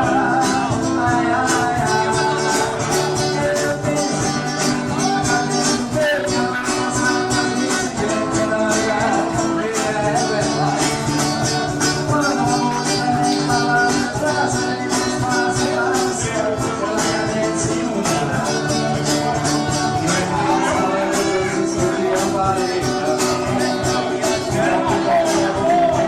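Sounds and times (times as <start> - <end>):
song with guitar and beat: 0.0 - 26.0.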